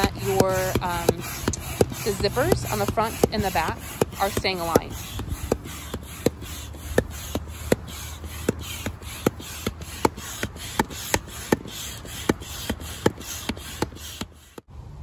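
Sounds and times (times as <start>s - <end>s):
hand pump strokes clicking: 0.0s - 14.7s.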